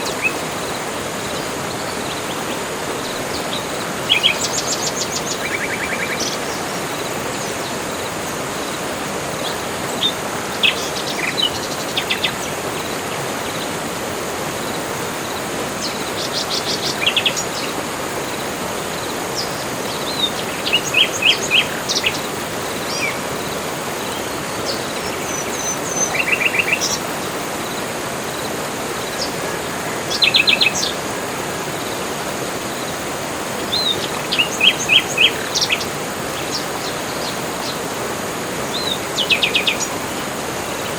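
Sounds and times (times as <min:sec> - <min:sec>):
birds chirping and trilling: 0:00.0 - 0:13.8, 0:14.6 - 0:32.0, 0:32.8 - 0:40.9.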